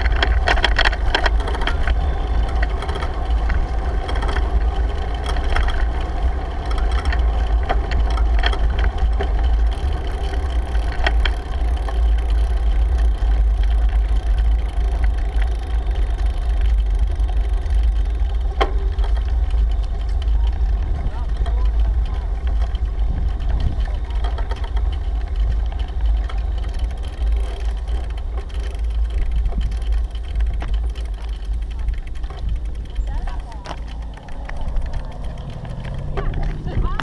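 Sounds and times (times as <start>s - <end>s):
bicycle tyre and road noise: 0.0s - 37.0s
scattered clicks: 0.0s - 37.0s
wind buffeting microphone: 0.0s - 37.0s.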